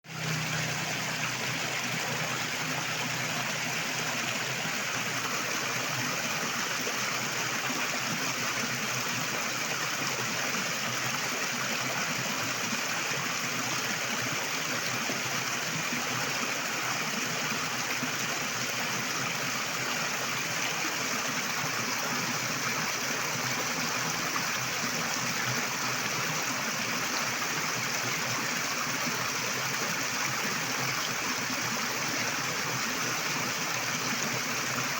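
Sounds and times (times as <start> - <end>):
river water flowing over rocks: 0.1 - 34.9.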